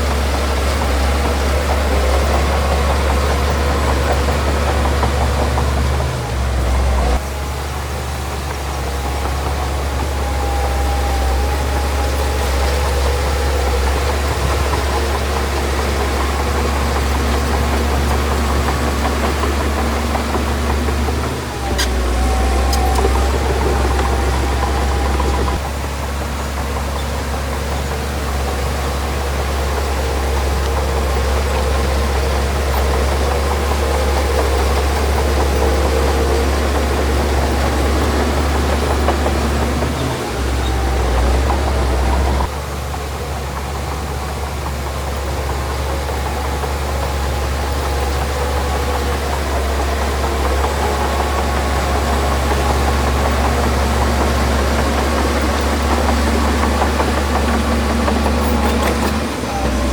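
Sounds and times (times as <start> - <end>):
diesel engine deep rumble: 0.0 - 59.9.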